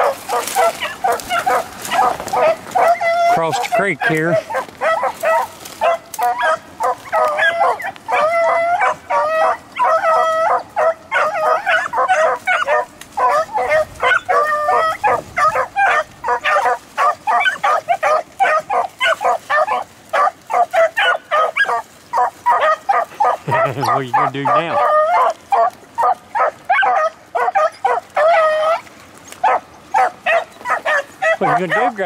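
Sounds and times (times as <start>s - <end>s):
beagles barking: 0.0s - 32.0s
beagles baying: 0.0s - 32.0s.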